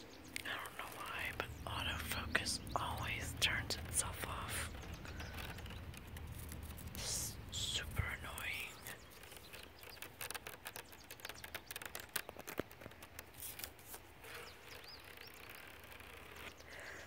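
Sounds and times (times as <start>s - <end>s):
faint bird chirps: 0.0s - 17.0s
fingernails scratching mesh net: 0.4s - 16.6s.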